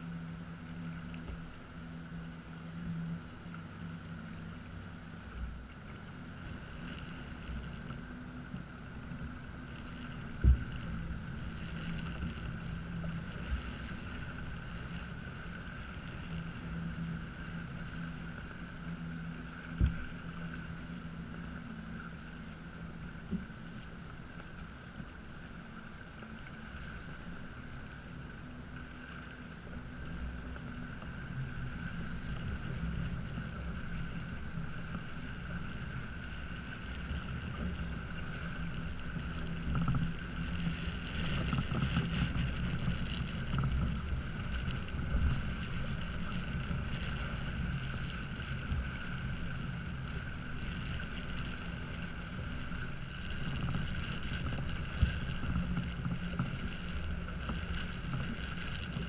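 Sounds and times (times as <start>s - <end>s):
water rushing along hull: 0.0s - 59.0s.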